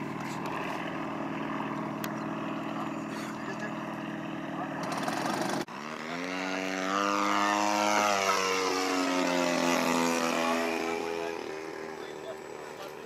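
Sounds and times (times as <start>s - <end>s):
model aircraft engine running: 0.0s - 13.0s.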